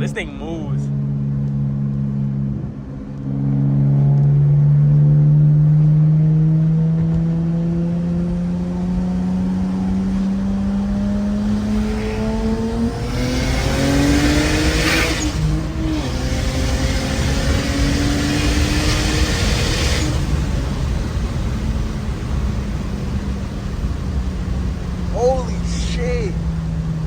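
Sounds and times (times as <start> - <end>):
car engine revving at full throttle: 0.0 - 27.0.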